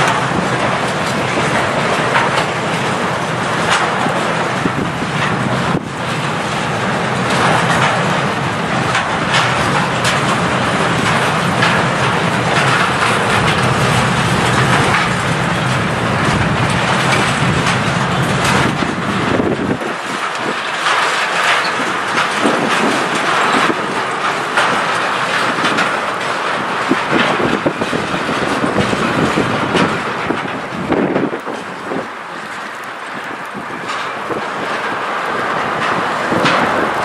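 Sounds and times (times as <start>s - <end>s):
train wheels rumbling on rail: 0.0s - 37.0s
wheels clicking over rail joints: 0.0s - 37.0s.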